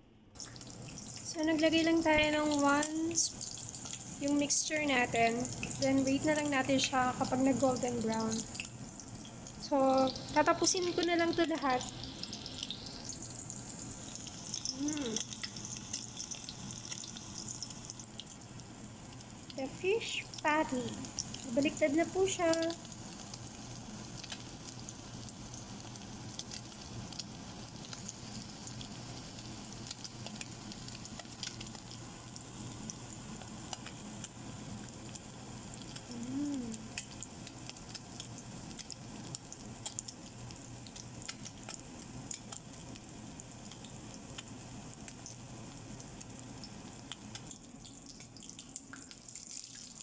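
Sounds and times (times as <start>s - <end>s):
food sizzling in hot oil: 0.4s - 50.0s
oil popping and crackling: 0.4s - 50.0s.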